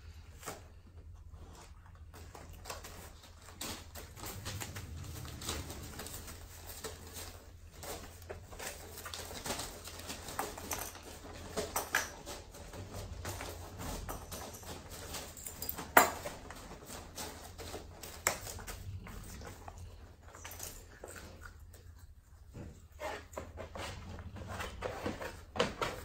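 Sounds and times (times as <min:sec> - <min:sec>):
paper rustling and crinkling: 0:00.0 - 0:21.6.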